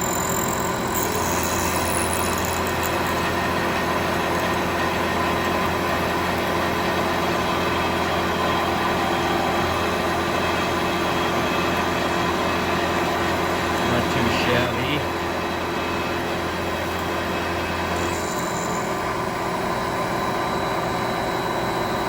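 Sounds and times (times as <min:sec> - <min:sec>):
milling machine running: 0:00.0 - 0:22.0.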